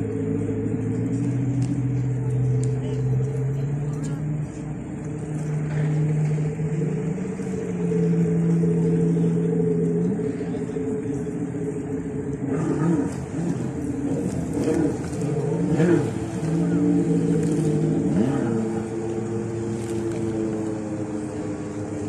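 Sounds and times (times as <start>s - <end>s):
jet ski engines revving: 0.0s - 22.0s.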